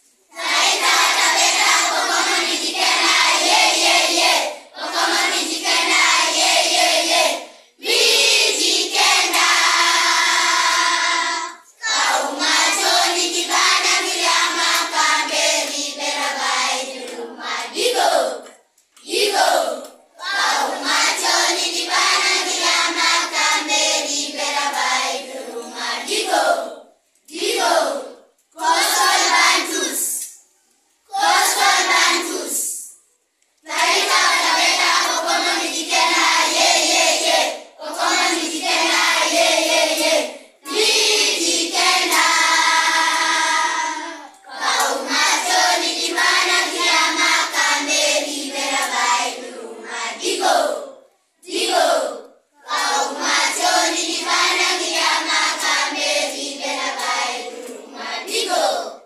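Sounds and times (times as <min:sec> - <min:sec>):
children singing in unison: 0:00.3 - 0:30.3, 0:31.1 - 0:32.9, 0:33.6 - 0:59.0.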